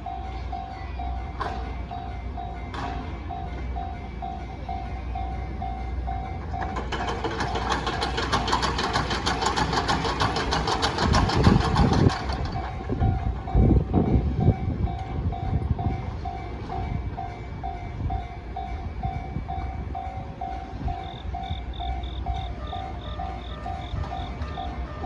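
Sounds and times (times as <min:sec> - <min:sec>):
train wheels clattering: 0:00.0 - 0:25.0.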